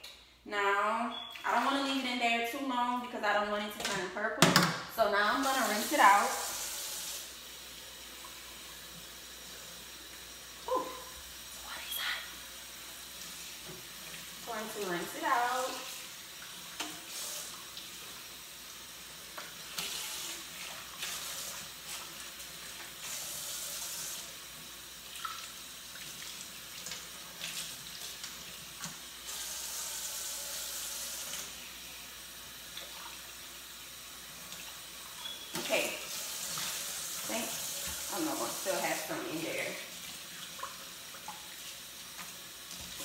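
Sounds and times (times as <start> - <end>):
faucet running into metal sink: 5.2 - 10.7, 12.6 - 43.0.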